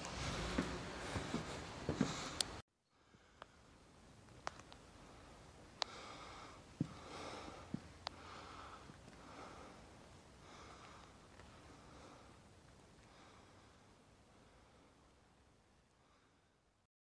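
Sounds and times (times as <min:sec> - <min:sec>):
person breathing heavily: 0:00.1 - 0:03.8, 0:05.0 - 0:15.2.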